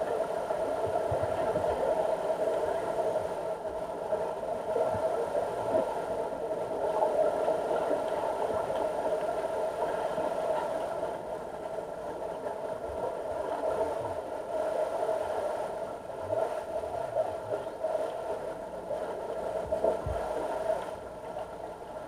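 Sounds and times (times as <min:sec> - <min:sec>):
underwater mechanical hum: 0:00.0 - 0:22.0.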